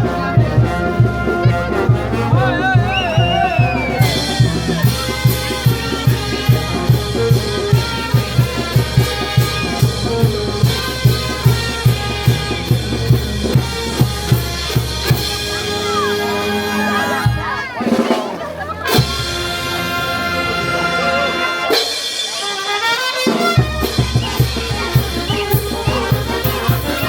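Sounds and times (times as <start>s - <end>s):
bass drum and snare beat: 0.0s - 20.6s, 23.2s - 27.0s
brass band playing: 0.0s - 27.0s.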